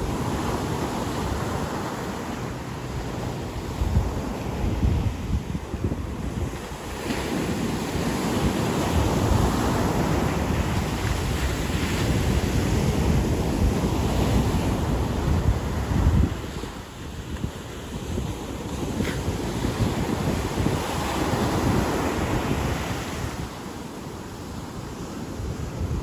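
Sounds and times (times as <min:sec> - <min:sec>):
ocean surf breaking: 0:00.0 - 0:26.0
wind rumbling on microphone: 0:00.0 - 0:26.0.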